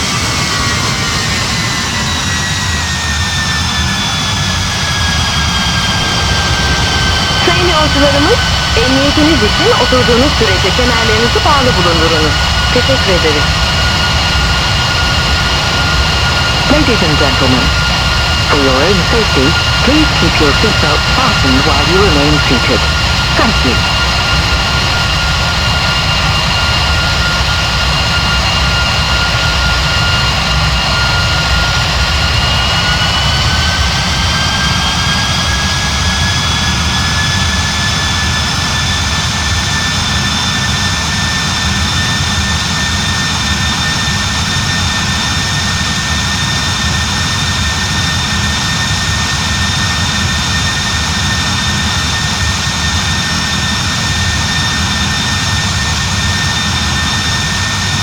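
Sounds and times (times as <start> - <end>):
jet engine fan whine: 0.0 - 58.0
jet engines rumbling: 0.0 - 58.0.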